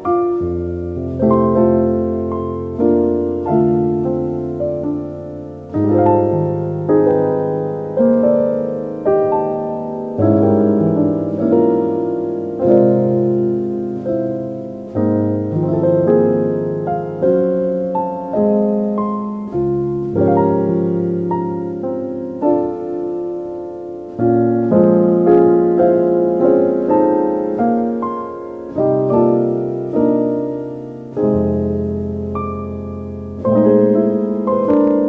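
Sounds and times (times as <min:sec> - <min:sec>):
slow solo piano: 0:00.0 - 0:35.0.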